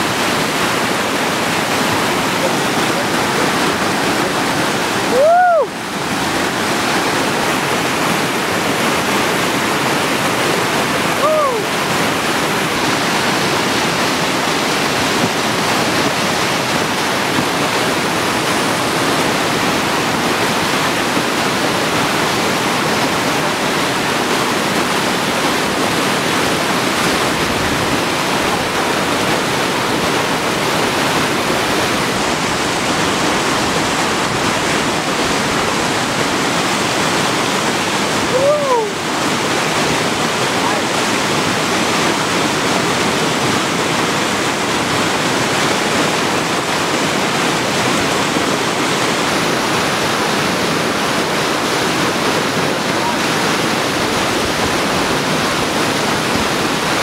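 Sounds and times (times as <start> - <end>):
whitewater rushing: 0.0 - 57.0.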